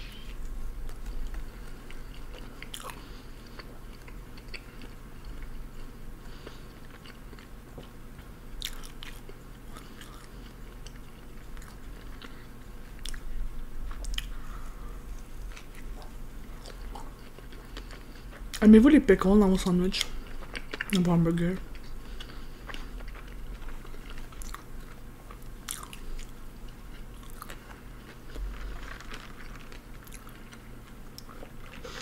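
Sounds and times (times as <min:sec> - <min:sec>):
chewing a burger: 0:00.2 - 0:18.6, 0:20.0 - 0:32.0.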